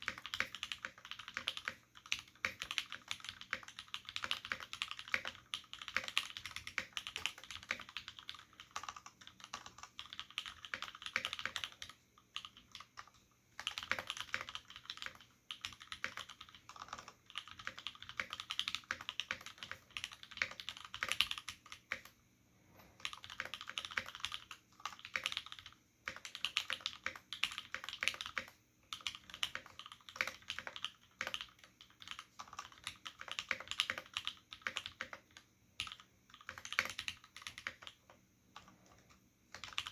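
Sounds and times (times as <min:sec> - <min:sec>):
mechanical keyboard typing: 0:00.0 - 0:22.2, 0:22.8 - 0:39.9.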